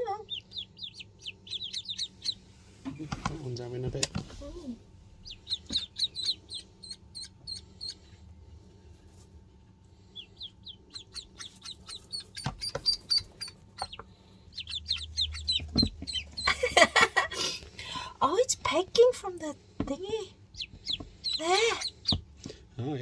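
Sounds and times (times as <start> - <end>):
ducklings peeping: 0.0 - 4.1, 5.1 - 8.3, 9.9 - 17.2, 18.6 - 22.6.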